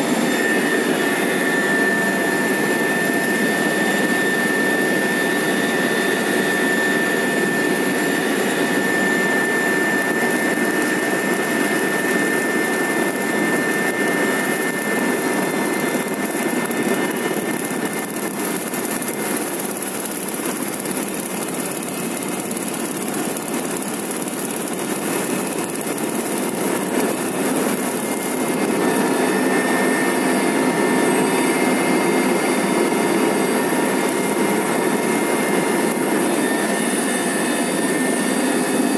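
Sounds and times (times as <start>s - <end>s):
helicopter engine and rotor: 0.0s - 38.9s
high turbine whine: 0.0s - 38.9s.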